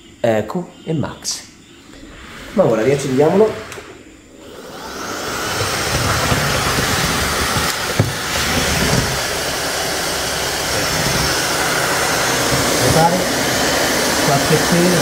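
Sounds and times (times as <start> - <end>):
stick vacuum running: 2.0 - 15.0.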